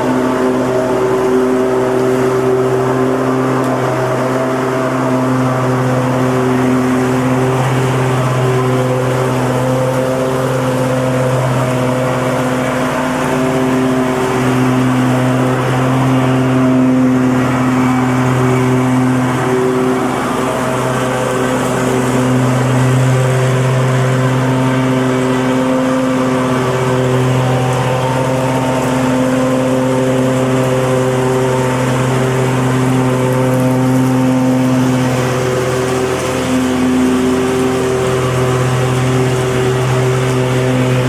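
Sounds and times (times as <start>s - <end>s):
blade cutting grass: 0.0s - 41.0s
lawn mower engine running: 0.0s - 41.0s.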